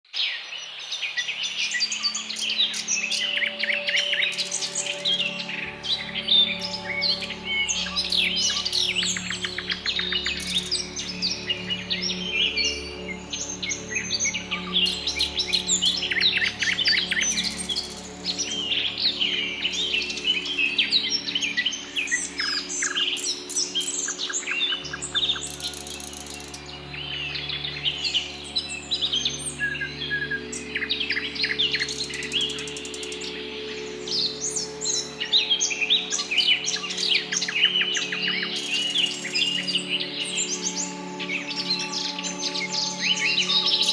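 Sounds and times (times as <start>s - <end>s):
birds chirping and trilling: 0.1s - 43.9s.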